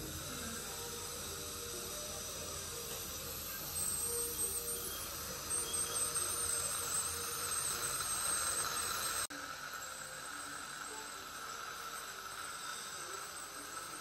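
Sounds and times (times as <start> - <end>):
dental scaler whine: 0.0 - 14.0.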